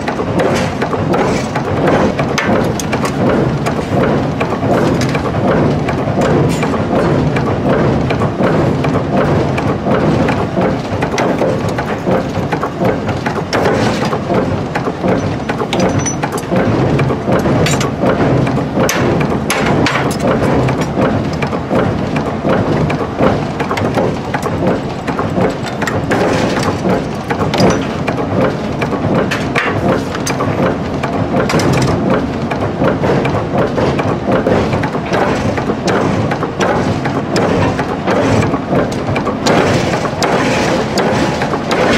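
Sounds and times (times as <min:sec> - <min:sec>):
forging press pounding steel: 0:00.0 - 0:41.9.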